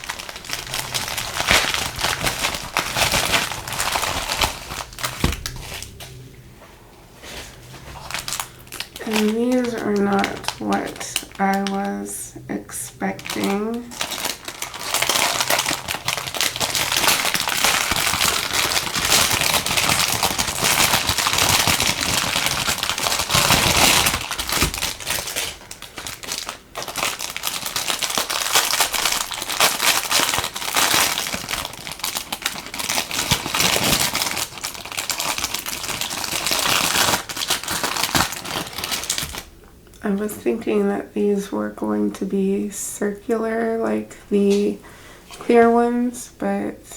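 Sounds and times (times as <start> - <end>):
plastic packaging crinkling: 0.0 - 6.2, 7.2 - 39.6.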